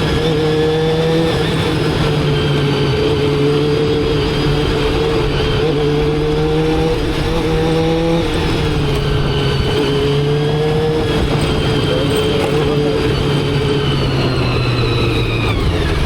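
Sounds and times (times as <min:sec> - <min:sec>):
motorcycle engine running: 0:00.0 - 0:16.0
road noise: 0:00.0 - 0:16.0.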